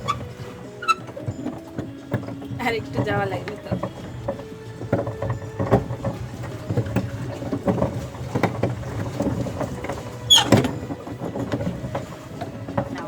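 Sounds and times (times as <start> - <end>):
boat knocking and creaking: 0.0 - 13.0.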